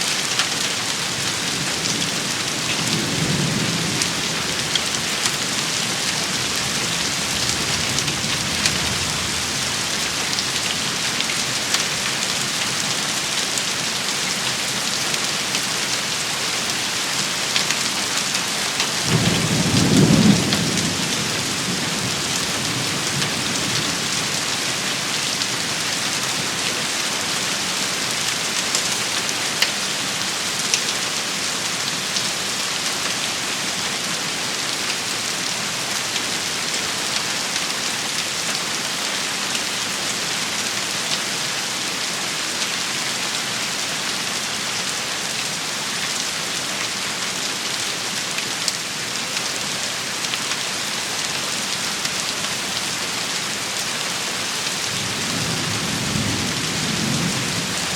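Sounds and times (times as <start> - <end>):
heavy rain pattering: 0.0 - 57.9.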